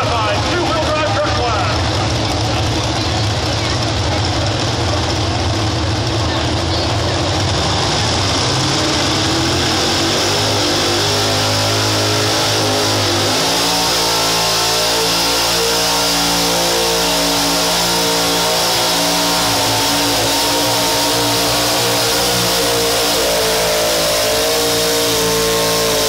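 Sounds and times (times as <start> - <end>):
tractor engine at high revs: 0.0 - 26.0.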